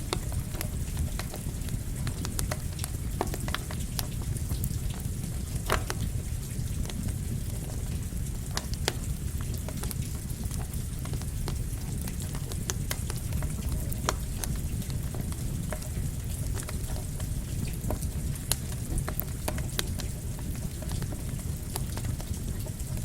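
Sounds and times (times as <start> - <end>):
campfire crackling and popping: 0.0 - 23.0
rain: 0.0 - 23.0.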